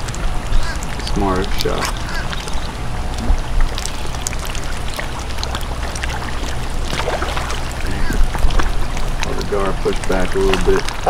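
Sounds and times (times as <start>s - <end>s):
pond water trickling: 0.0s - 11.0s
small water splashes: 0.0s - 11.0s.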